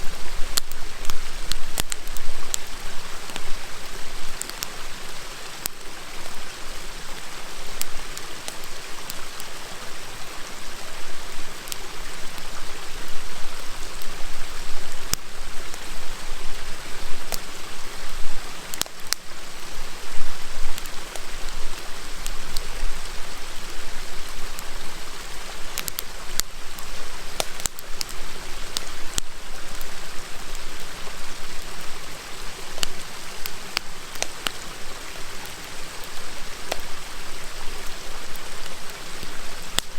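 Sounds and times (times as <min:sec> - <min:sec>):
campfire crackling and popping: 0:00.0 - 0:39.9
river rushing: 0:00.0 - 0:39.9.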